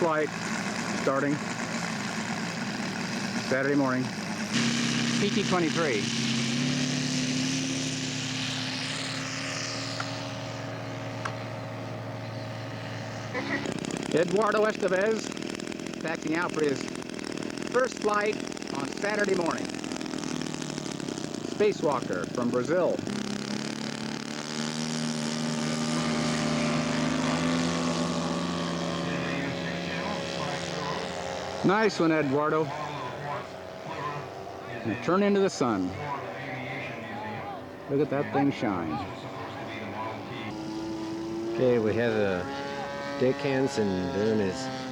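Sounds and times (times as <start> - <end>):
model airplane engine and propeller: 0.0 - 44.9.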